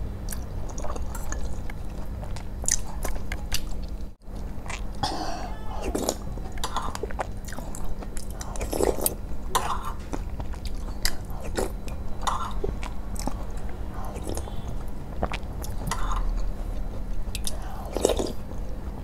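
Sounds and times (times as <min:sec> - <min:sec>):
close chewing and mouth sounds: 0:00.2 - 0:05.0, 0:05.8 - 0:19.0.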